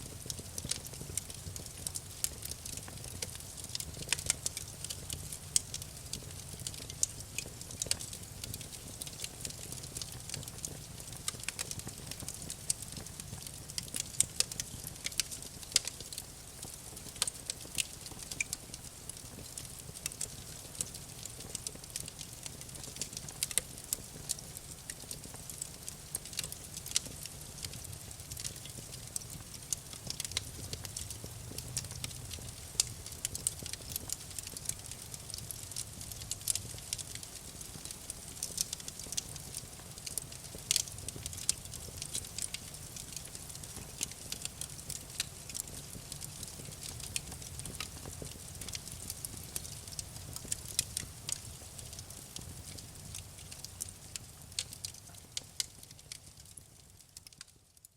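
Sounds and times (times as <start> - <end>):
low fire rumble: 0.0 - 57.1
campfire crackling and popping: 0.0 - 57.8.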